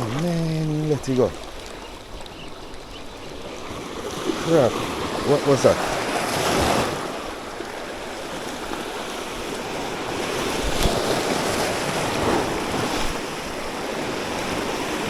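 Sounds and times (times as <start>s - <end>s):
sea waves washing on shore: 0.0s - 15.0s
wind on microphone: 0.0s - 15.0s.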